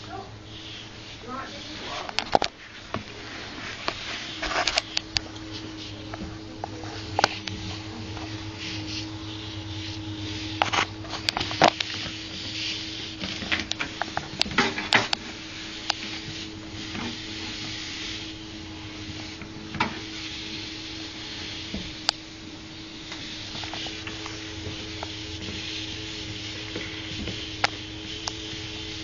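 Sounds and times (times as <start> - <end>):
treadmill motor hum and belt hiss: 0.0 - 29.0.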